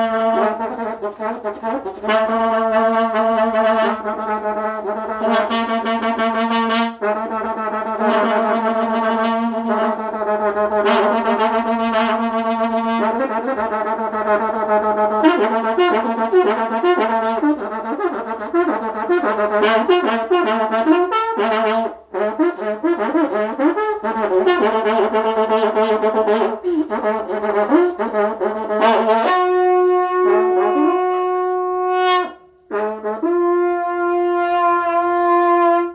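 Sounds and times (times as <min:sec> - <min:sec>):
horn with wavering pitch: 0:00.0 - 0:35.9
long brass trumpets droning: 0:00.0 - 0:35.9.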